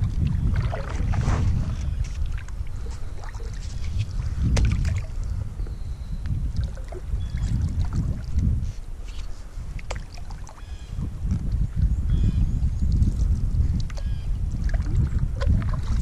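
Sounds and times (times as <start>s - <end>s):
water drips and splashes: 0.0s - 5.4s, 6.2s - 8.6s, 9.7s - 11.9s, 12.7s - 16.0s
paddle pulling through water: 0.0s - 16.0s
steady low rumble: 0.0s - 16.0s.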